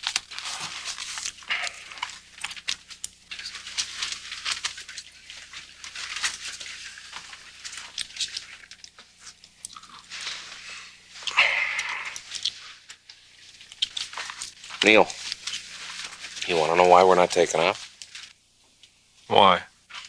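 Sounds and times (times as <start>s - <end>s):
paper rustling and crinkling: 0.0s - 18.4s.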